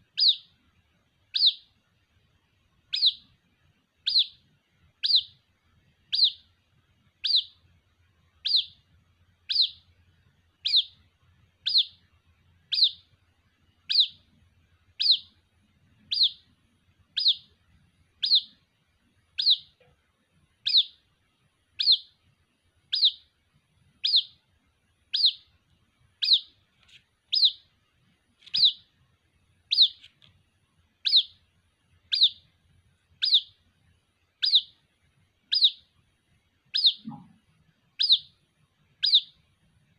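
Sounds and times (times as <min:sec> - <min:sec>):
bird chick peeping: 0:00.0 - 0:00.6, 0:01.2 - 0:01.8, 0:02.7 - 0:19.8, 0:20.5 - 0:22.2, 0:22.8 - 0:29.0, 0:29.6 - 0:30.4, 0:31.0 - 0:39.6.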